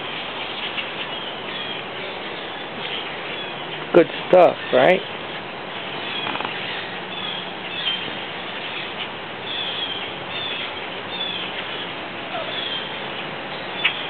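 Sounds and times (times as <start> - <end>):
birds chirping: 0.0 - 14.0
steady outdoor hiss: 0.0 - 14.0.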